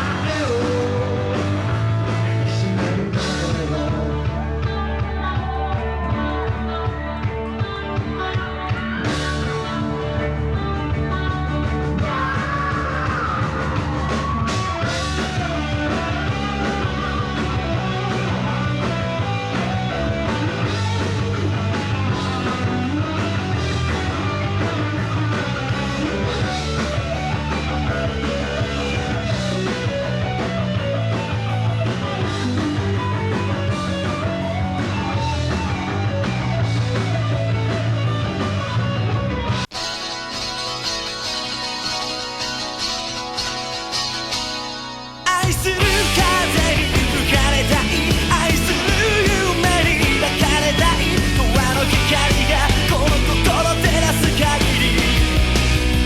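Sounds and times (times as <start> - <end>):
rock band playing: 0.0 - 56.0
electric guitar bend: 7.6 - 56.0.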